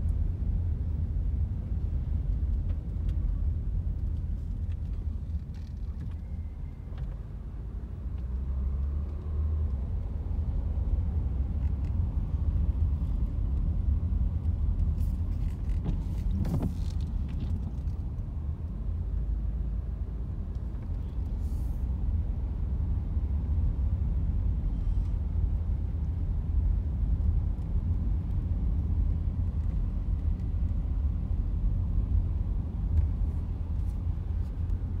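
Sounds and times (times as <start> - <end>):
car driving from inside cabin: 0.0 - 35.0.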